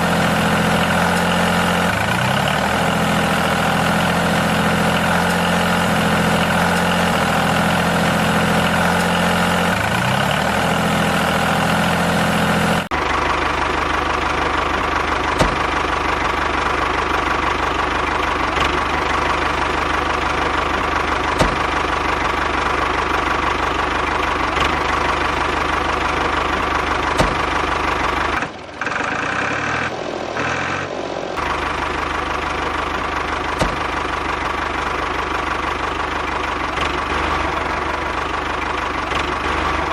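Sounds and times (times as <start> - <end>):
engine idling with knocking: 0.0 - 29.8, 31.4 - 39.9.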